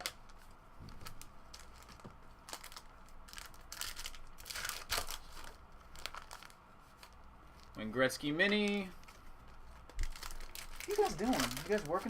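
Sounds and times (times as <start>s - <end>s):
card pack wrappers crinkling and tearing: 0.0s - 12.0s.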